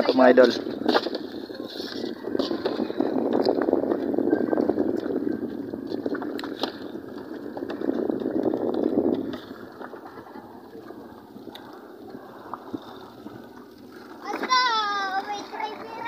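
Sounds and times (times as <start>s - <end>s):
sea water washing: 0.0s - 16.0s
wind: 0.0s - 16.0s.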